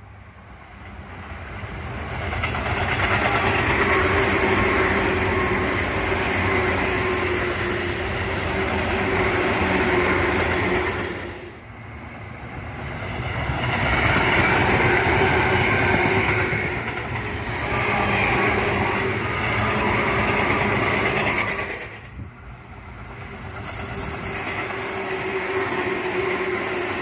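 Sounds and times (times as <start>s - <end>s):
electric train running past: 0.0s - 27.0s
train steady whine: 0.0s - 27.0s
train wheel and rail noise: 0.0s - 27.0s.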